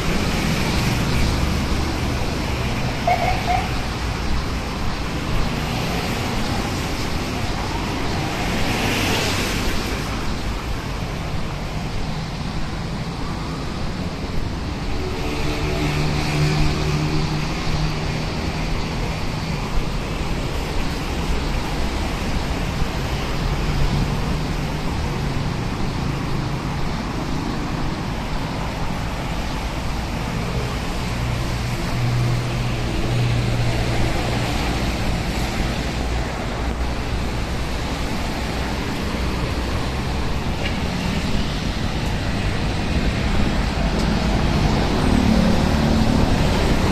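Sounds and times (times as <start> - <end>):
traffic on wet road: 0.0 - 46.9.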